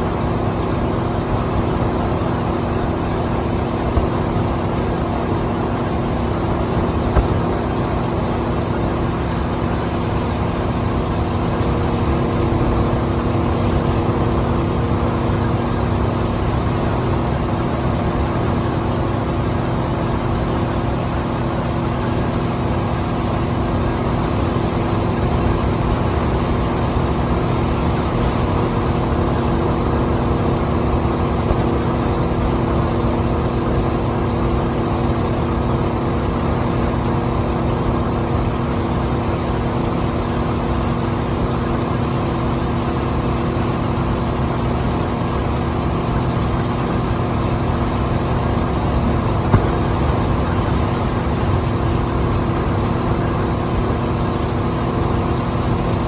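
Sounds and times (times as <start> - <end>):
speedboat engine hum: 0.0 - 56.0.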